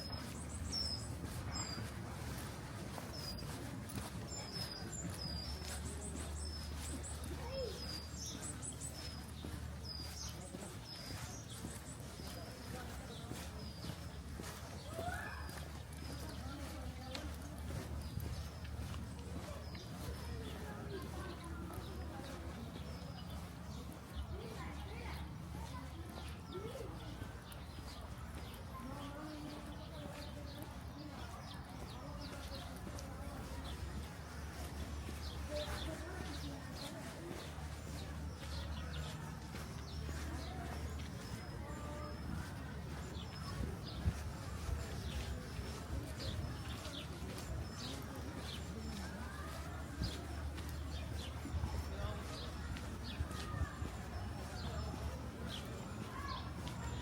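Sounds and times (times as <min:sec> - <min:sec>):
faint distant voices: 0:00.0 - 0:57.0
small birds chirping: 0:00.0 - 0:57.0.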